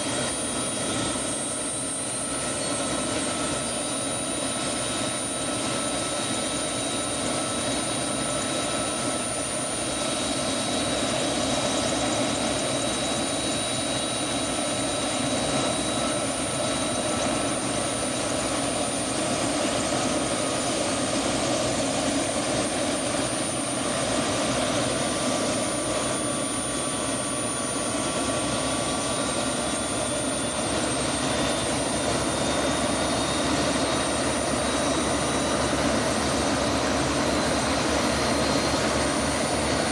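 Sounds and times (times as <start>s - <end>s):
helicopter rotor rush: 0.0s - 39.9s
helicopter turbine whine: 0.0s - 39.9s.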